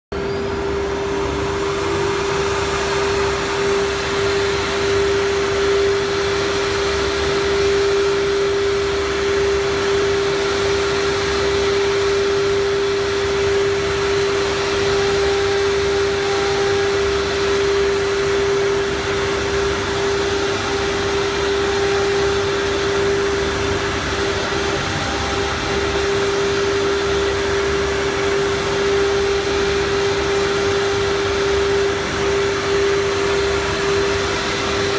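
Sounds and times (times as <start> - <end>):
cnc router whine: 0.1 - 34.9
dust extractor rushing hiss: 1.0 - 34.9.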